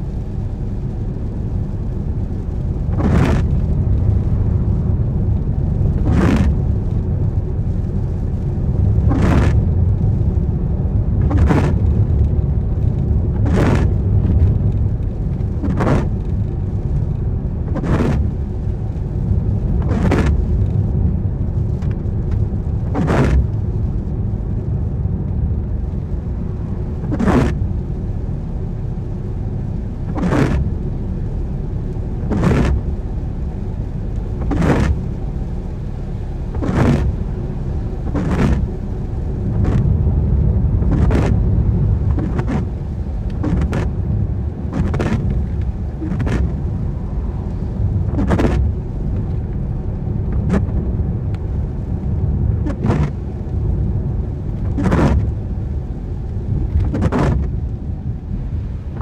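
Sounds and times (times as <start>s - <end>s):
car road and engine rumble: 0.0s - 59.0s
windscreen wiper swishing: 0.0s - 59.0s.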